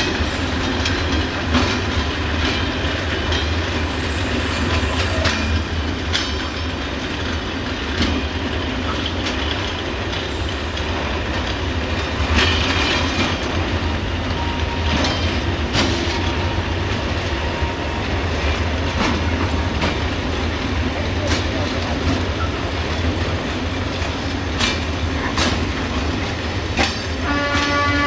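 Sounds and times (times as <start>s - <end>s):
wheels clicking over rail joints: 0.0s - 3.8s, 4.7s - 28.0s
freight train rumbling: 0.0s - 28.0s.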